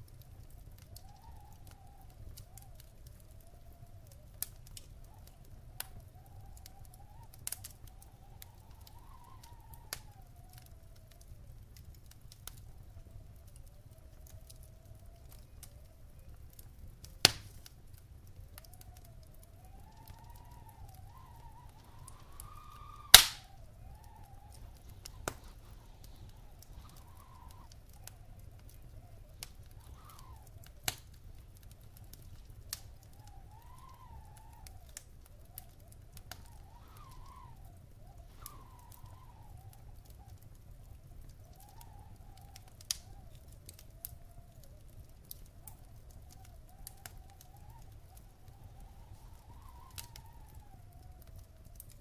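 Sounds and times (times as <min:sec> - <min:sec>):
wood fire crackling and popping: 0:00.0 - 0:52.0
faint wavering whistle: 0:00.4 - 0:11.4, 0:12.6 - 0:16.7, 0:18.4 - 0:31.1, 0:32.0 - 0:52.0.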